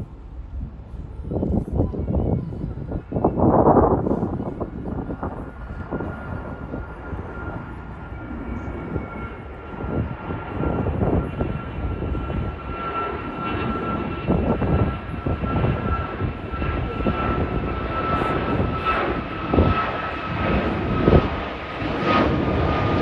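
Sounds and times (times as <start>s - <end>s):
distant jet engine rumble: 0.0s - 23.0s
thin steady jet whine: 0.0s - 23.0s.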